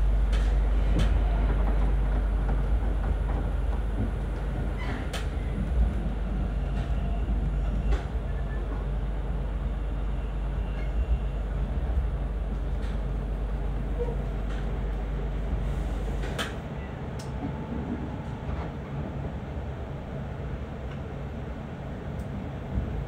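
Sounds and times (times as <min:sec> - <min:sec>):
train rumble inside passenger car: 0:00.0 - 0:23.0.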